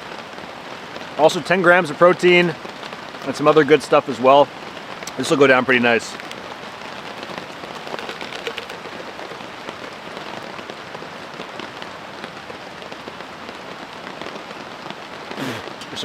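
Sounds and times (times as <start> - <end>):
rain on a tarp: 0.0 - 16.0.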